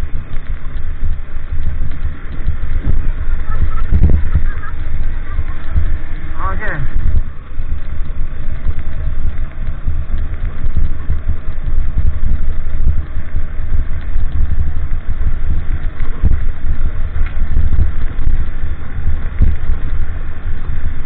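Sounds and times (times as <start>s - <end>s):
vehicle engine running: 0.0s - 21.0s
wind rumble on microphone: 0.0s - 21.0s.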